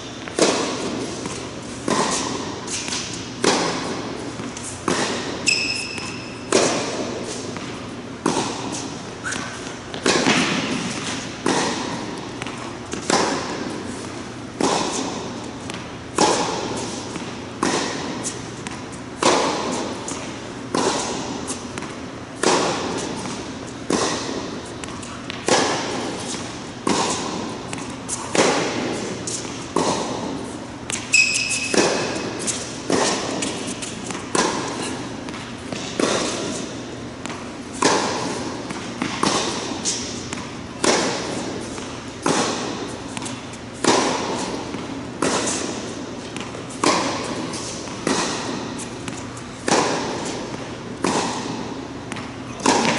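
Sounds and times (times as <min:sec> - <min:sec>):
rackets hitting tennis balls: 0:00.0 - 0:52.9
tennis ball bouncing: 0:00.2 - 0:52.9.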